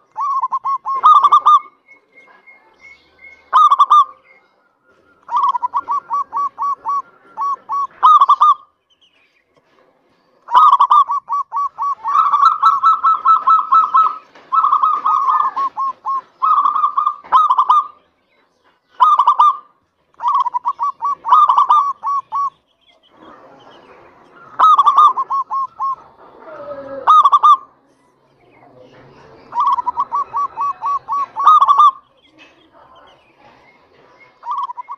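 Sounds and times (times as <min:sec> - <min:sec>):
dove cooing: 0:00.0 - 0:08.8, 0:10.4 - 0:18.0, 0:18.9 - 0:27.8, 0:28.6 - 0:34.9.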